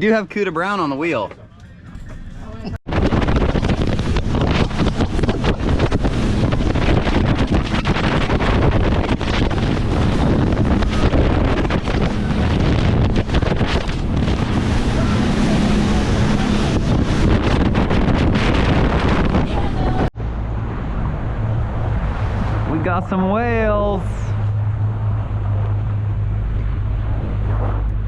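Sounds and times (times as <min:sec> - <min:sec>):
boat engine drone: 0:00.0 - 0:28.0
wind buffeting microphone: 0:01.7 - 0:28.0
rushing water: 0:02.9 - 0:26.5.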